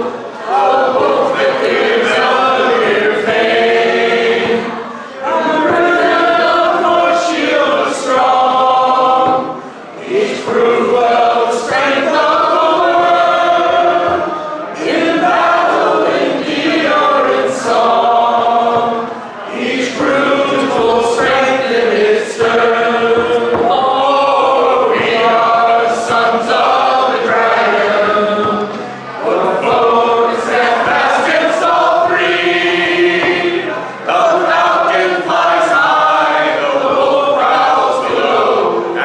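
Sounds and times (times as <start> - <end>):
people singing unaccompanied: 0.0 - 39.0.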